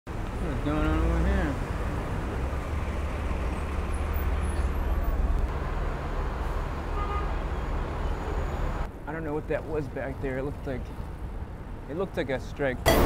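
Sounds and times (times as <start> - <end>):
city street traffic rumble: 0.1 - 13.0.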